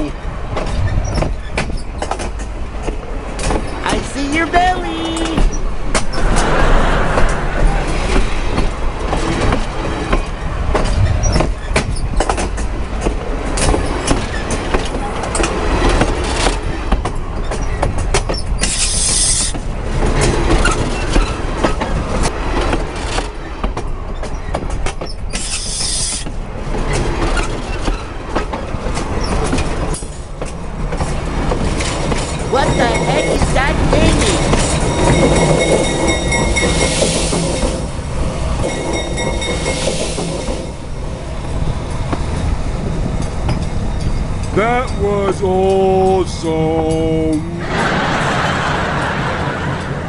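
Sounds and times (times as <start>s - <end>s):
steel wheels clacking on rails: 0.0s - 6.2s, 8.0s - 50.0s
freight train rumbling: 0.0s - 50.0s.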